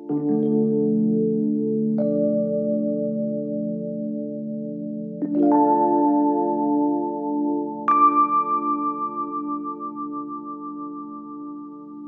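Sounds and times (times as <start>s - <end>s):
sustained keyboard chord: 0.0s - 12.0s.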